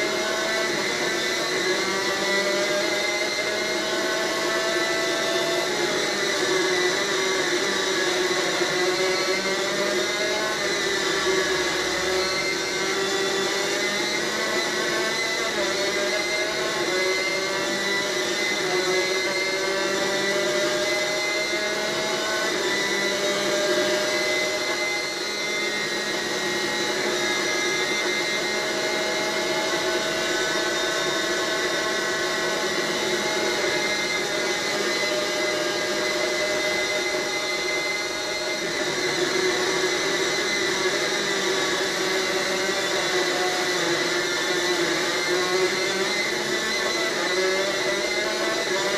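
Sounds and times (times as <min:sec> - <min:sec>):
kart engine buzzing at racing revs: 0:00.0 - 0:48.9.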